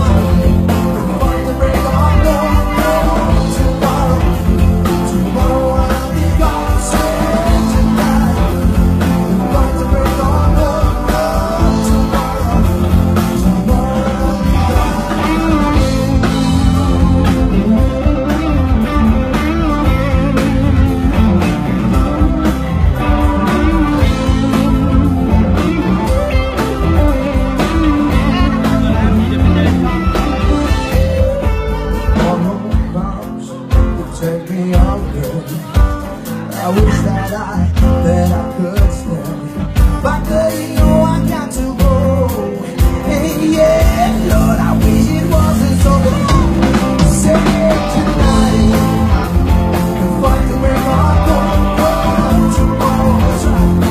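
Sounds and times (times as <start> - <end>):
bass and drum beat: 0.0 - 53.9
electric guitar: 0.0 - 53.9
person singing: 0.0 - 53.9.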